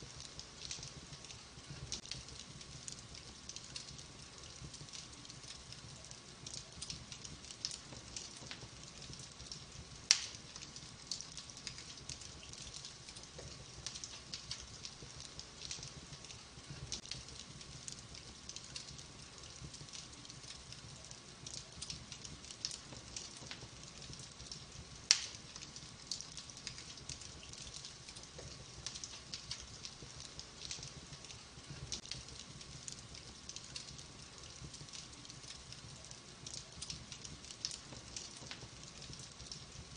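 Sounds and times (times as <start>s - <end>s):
wood fire crackling: 0.0s - 39.9s
loud pops of fire: 0.2s - 20.4s, 21.1s - 39.7s.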